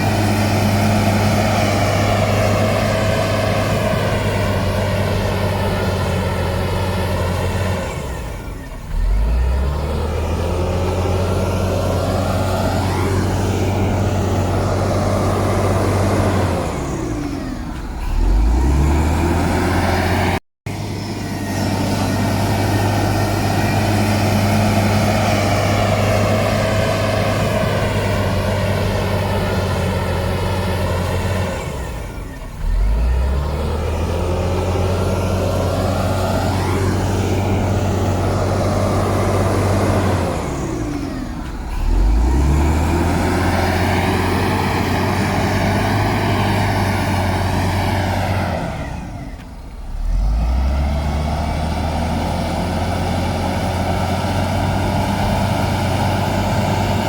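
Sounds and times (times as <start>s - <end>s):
heavy diesel engine labouring: 0.0s - 57.0s.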